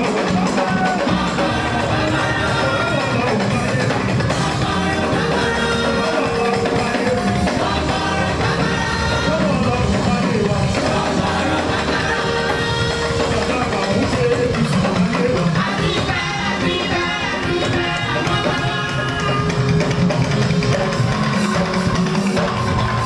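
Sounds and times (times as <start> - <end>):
band accompaniment: 0.0 - 23.0
choir singing: 0.1 - 19.5.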